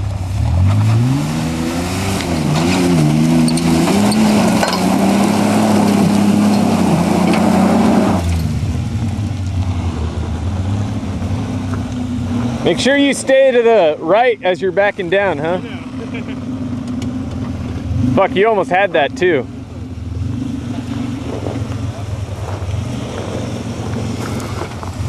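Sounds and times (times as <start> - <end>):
pickup engine revving: 0.0 - 25.0
tyres churning dirt: 0.0 - 25.0.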